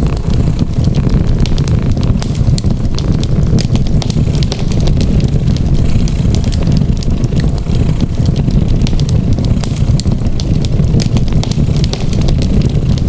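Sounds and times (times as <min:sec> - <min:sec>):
cat purring: 0:00.0 - 0:13.0
wood fire crackling and popping: 0:00.0 - 0:13.0.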